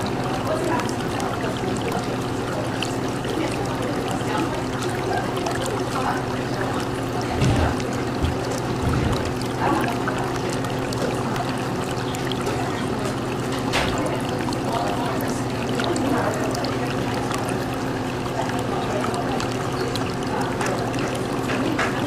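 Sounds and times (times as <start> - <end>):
aquarium water trickling and bubbling: 0.0 - 22.0.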